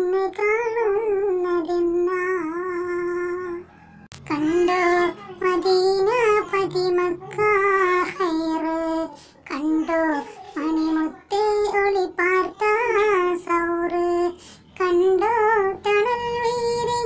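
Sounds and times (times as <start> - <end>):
high voice singing devotional song: 0.0 - 17.0.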